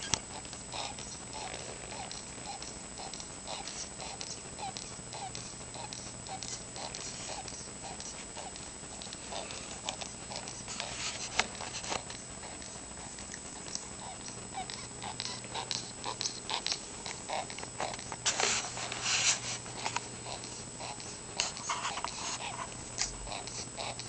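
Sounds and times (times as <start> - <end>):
cockatiel clicking and scratching: 0.0 - 24.0.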